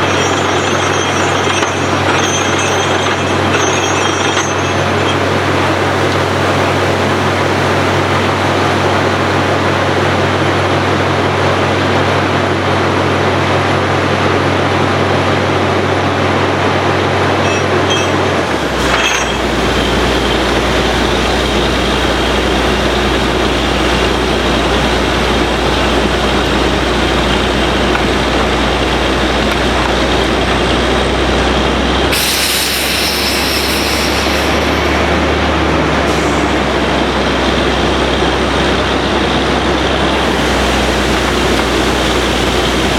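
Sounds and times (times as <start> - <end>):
drilling machine running: 0.0 - 12.0, 16.9 - 42.9.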